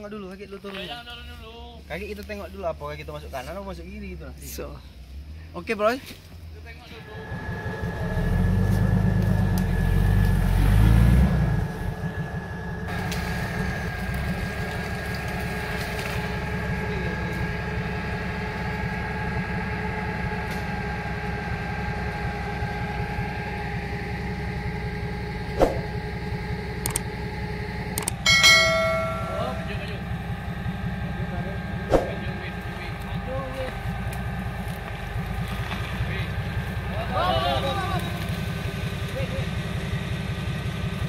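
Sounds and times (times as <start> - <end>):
steady engine whine: 1.5 - 41.0
engine running at low revs: 6.2 - 41.0.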